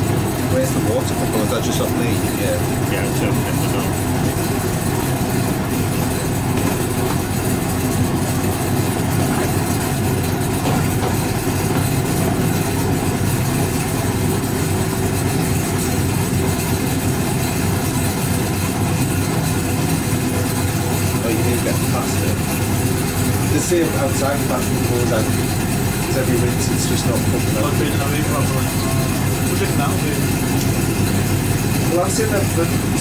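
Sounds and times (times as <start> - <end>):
washing machine running: 0.0 - 33.0.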